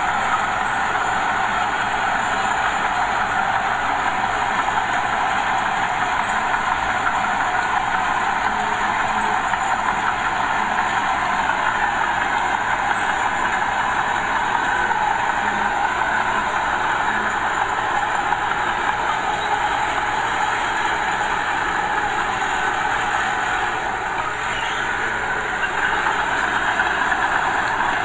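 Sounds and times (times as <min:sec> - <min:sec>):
bulldozer diesel engine running: 0:00.0 - 0:28.0
dump truck engine running: 0:00.0 - 0:28.0.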